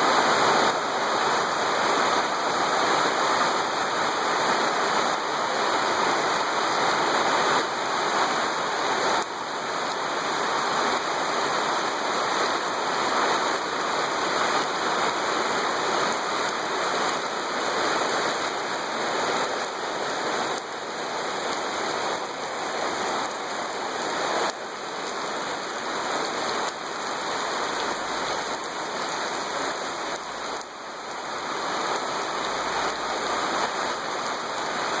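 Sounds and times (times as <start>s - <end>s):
rain pouring: 0.0s - 35.0s.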